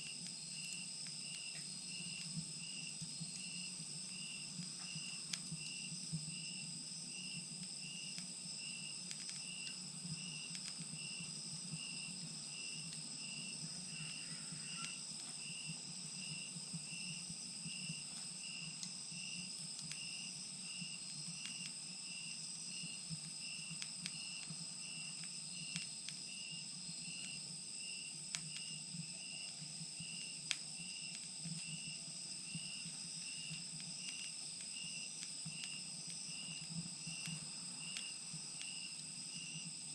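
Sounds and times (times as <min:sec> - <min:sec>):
wood fire crackling and popping: 0:00.0 - 0:13.3, 0:17.9 - 0:27.6, 0:28.2 - 0:39.9
insects trilling and chirping: 0:00.0 - 0:39.9.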